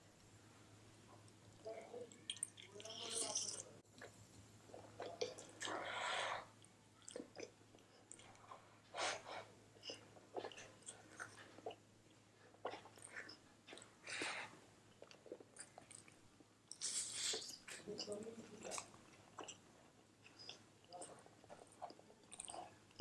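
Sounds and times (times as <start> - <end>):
wet chewing sounds: 1.1 - 23.0.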